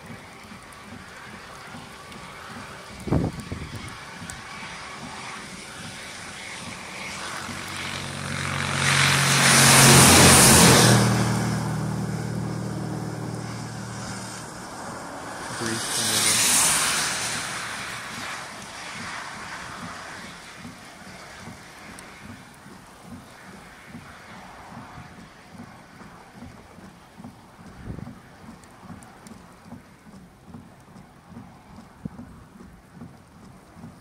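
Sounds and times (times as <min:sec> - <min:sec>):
low engine hum: 0:00.0 - 0:34.0
tyres hissing on wet road: 0:00.0 - 0:34.0.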